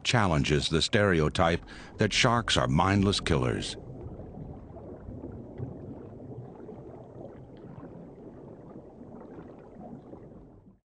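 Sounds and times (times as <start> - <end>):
muffled underwater rumbling wash: 0.0 - 10.8
faint crackles: 1.4 - 10.8.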